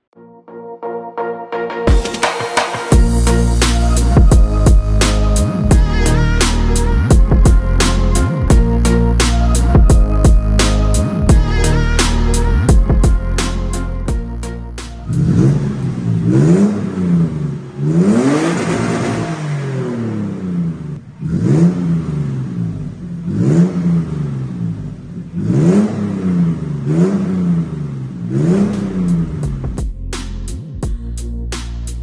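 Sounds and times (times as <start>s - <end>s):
engine revving: 2.9s - 31.1s.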